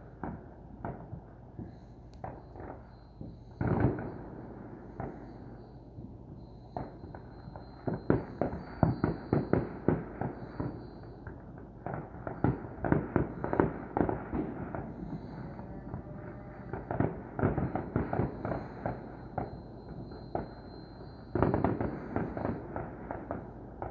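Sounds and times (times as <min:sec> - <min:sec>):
distant fireworks popping and cracking: 0:00.0 - 0:23.9.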